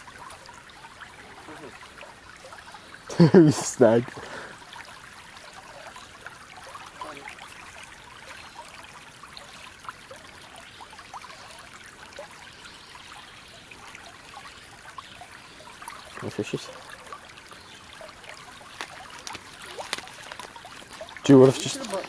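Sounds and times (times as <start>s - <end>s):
creek water flowing and trickling: 0.0s - 22.0s.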